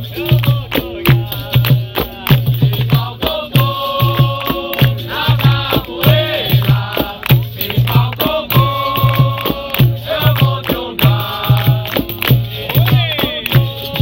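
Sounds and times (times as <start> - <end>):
drum strokes: 0.0 - 14.0
group chant-like singing: 0.0 - 14.0
sharp percussion strikes: 0.0 - 14.0.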